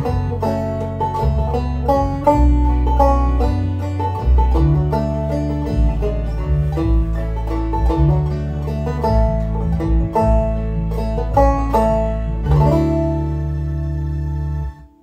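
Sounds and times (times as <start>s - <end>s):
banjo folk melody: 0.0s - 15.0s.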